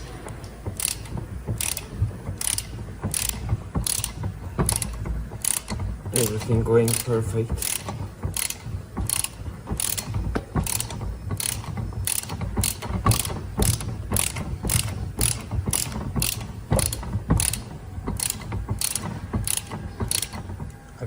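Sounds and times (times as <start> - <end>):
ratchet clicking: 0.0 - 20.8.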